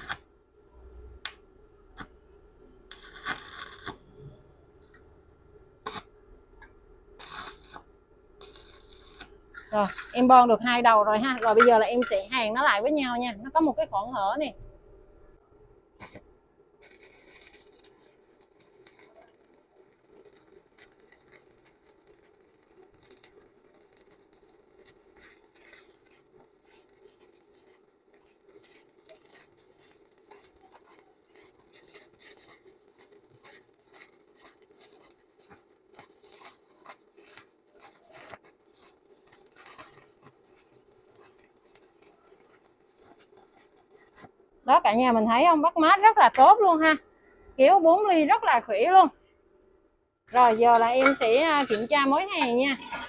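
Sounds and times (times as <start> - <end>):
sharp welding pops: 0.0 - 0.3, 1.2 - 2.2, 2.9 - 5.0, 5.8 - 12.6, 16.0 - 46.8, 50.2 - 53.0
welding arc crackling: 0.0 - 0.3, 1.2 - 5.0, 5.7 - 13.8, 16.0 - 47.0, 50.3 - 53.0.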